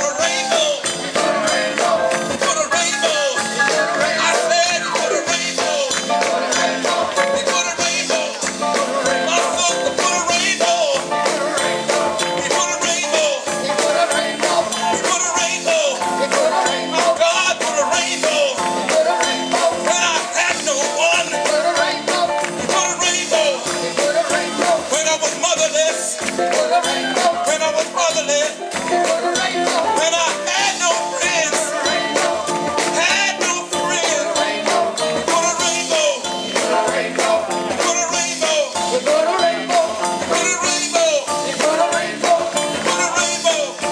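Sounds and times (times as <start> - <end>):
drums and percussion: 0.0 - 43.9
voices singing: 0.0 - 43.9.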